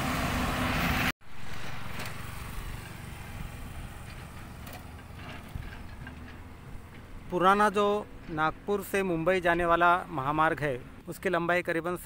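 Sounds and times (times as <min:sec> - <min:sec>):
distant low engine rumble: 0:00.0 - 0:11.2.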